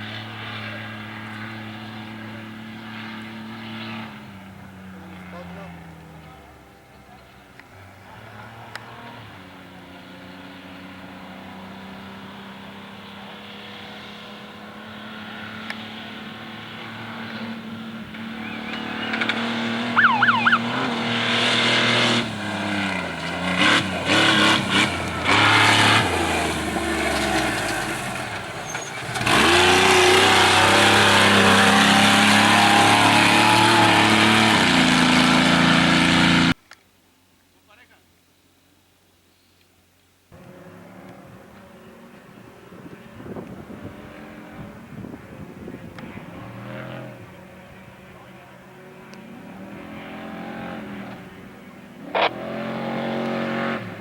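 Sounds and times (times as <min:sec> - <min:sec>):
off-road race vehicle engine revving: 0:00.0 - 0:36.6, 0:40.4 - 0:54.0.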